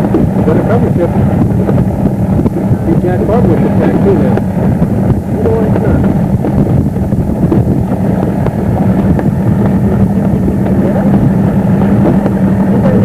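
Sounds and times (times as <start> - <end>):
motorboat engine running: 0.0 - 13.0
wind buffeting microphone: 0.0 - 13.0.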